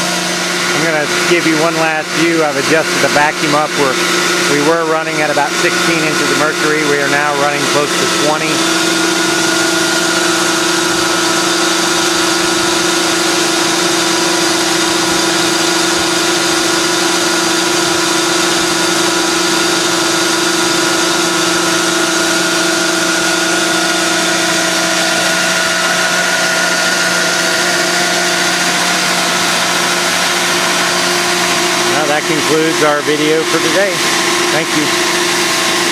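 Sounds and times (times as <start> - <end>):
vacuum pump humming: 0.0 - 35.9.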